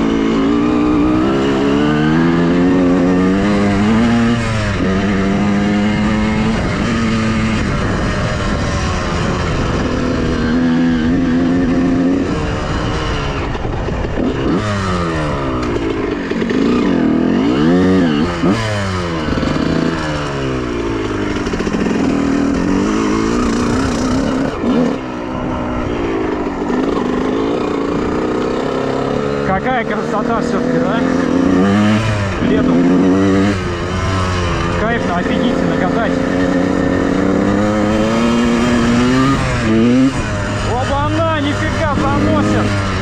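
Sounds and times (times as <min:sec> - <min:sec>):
two-stroke motorcycle engine revving: 0:00.0 - 0:43.0.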